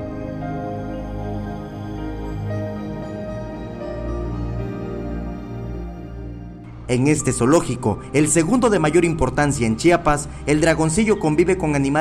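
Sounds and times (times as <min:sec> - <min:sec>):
low drone: 0:00.0 - 0:12.0
soft new-age music: 0:00.0 - 0:12.0.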